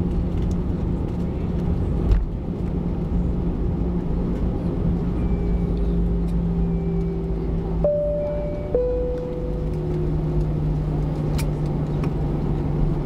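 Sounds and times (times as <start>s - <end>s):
deep rumble of airframe and wheels: 0.0s - 13.0s
jet engine hum: 0.0s - 13.0s.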